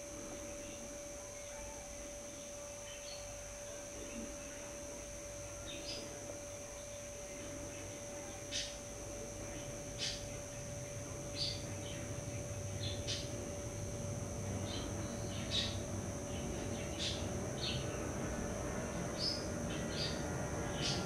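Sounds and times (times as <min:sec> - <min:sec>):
songbirds chirping: 0:00.2 - 0:21.0.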